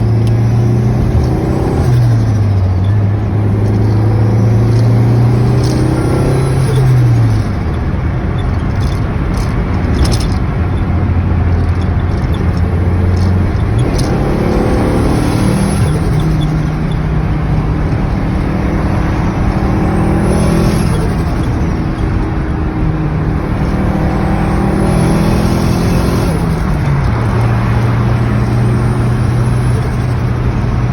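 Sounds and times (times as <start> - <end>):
pickup engine accelerating: 0.0 - 30.9
turbo flutter chattering clicks: 0.0 - 30.9.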